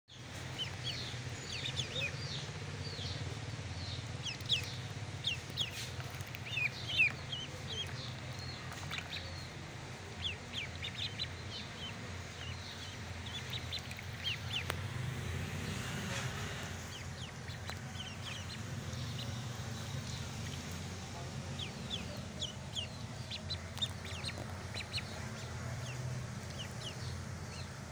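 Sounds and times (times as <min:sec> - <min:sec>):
ducklings peeping: 0:00.1 - 0:27.9
steady low hum: 0:00.2 - 0:27.9.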